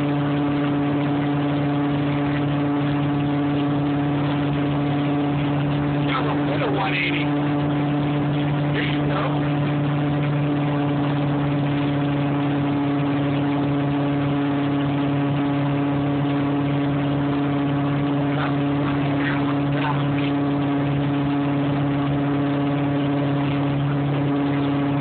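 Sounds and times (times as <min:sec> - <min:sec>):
boat engine drone: 0:00.0 - 0:25.0
churning wake rushing: 0:00.0 - 0:25.0.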